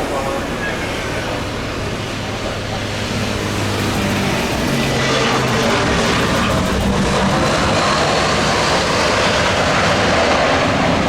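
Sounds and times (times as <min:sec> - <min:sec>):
jet airliner engines: 0:00.0 - 0:11.0.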